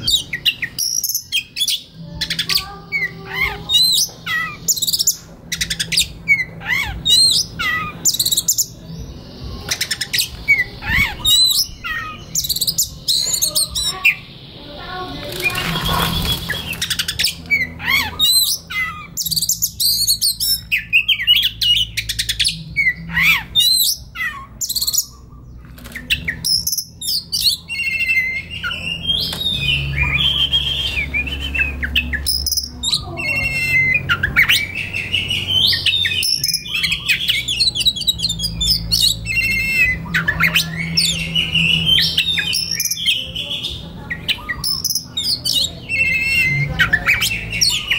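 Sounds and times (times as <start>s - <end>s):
bird singing whistles and trills: 0.0s - 47.9s.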